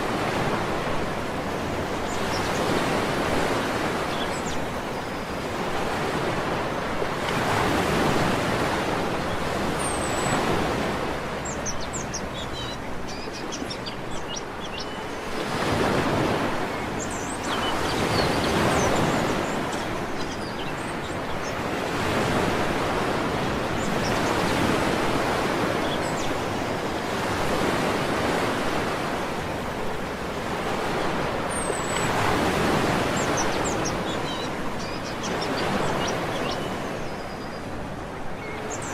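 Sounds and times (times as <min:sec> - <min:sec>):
sea waves washing onto beach: 0:00.0 - 0:38.9.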